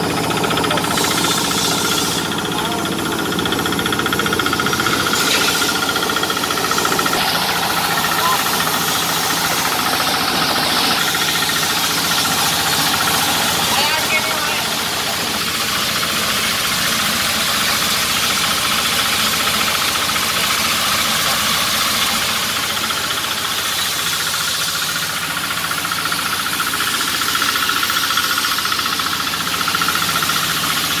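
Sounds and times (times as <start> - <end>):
coffee huller machine running: 0.0 - 31.0.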